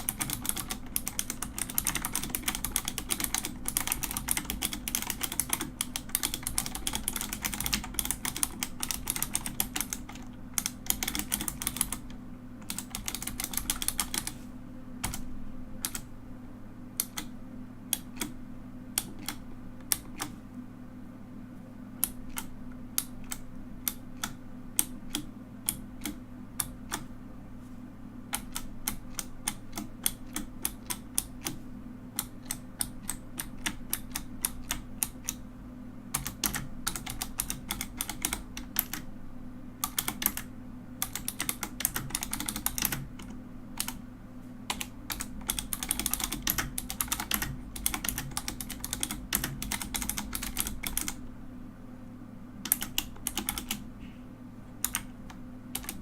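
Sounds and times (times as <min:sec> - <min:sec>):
mechanical keyboard typing: 0:00.0 - 0:14.4, 0:15.0 - 0:16.1, 0:17.0 - 0:17.3, 0:17.9 - 0:20.4, 0:22.0 - 0:27.1, 0:28.3 - 0:35.4, 0:36.1 - 0:39.1, 0:39.8 - 0:44.0, 0:44.7 - 0:51.2, 0:52.6 - 0:53.9, 0:54.8 - 0:56.0.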